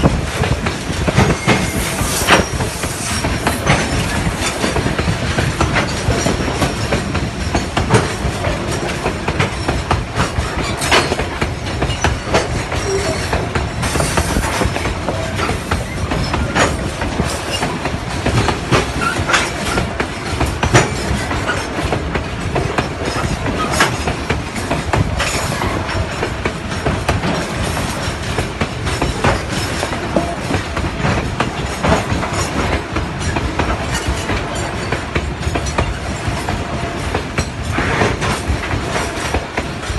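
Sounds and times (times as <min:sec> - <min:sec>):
train wheels rumbling on rails: 0:00.0 - 0:39.9
wheels and couplings clanking: 0:00.0 - 0:39.9.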